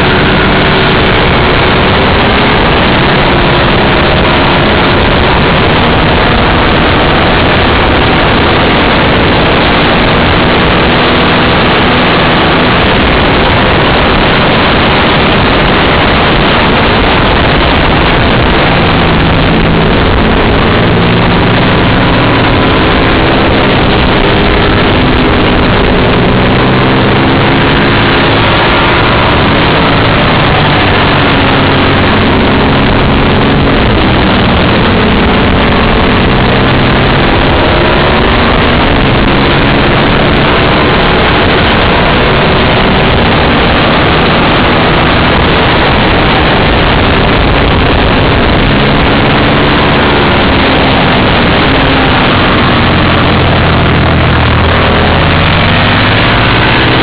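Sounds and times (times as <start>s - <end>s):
motorcycle engine revving: 0.0s - 57.0s
wind rushing on microphone: 0.0s - 57.0s.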